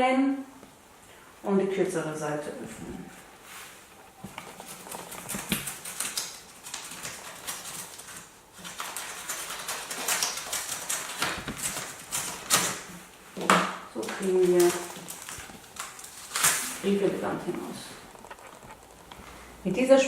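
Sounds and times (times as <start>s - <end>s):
paper rustling: 3.2s - 19.5s.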